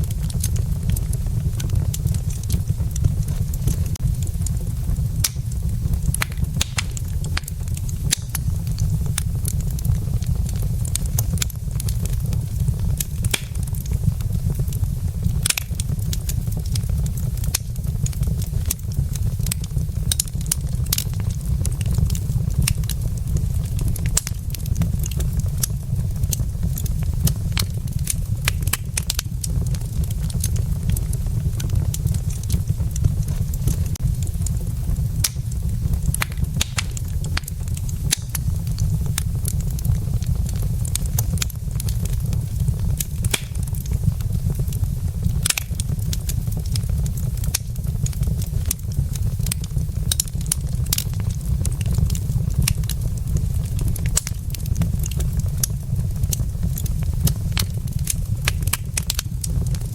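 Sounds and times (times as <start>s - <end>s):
low fire rumble: 0.0s - 59.9s
wood logs crackling and popping: 0.0s - 59.9s.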